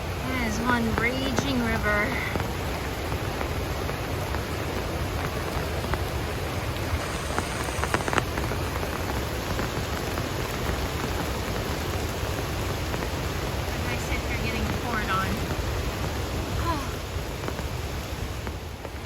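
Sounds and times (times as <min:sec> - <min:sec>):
falling rain: 0:00.0 - 0:19.0
river rushing: 0:00.0 - 0:19.0.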